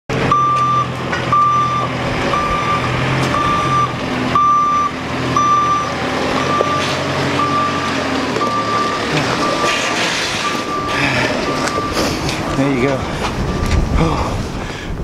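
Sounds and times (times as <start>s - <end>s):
diesel engine running: 0.1s - 15.0s
reversing alarm beeps: 0.3s - 12.4s.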